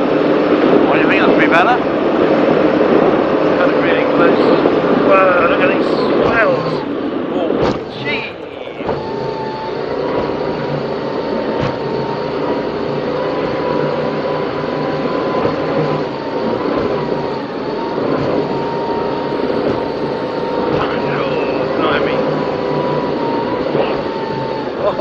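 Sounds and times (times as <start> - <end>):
powerboat engines droning: 0.0 - 25.0
thin wavering whine: 0.0 - 25.0.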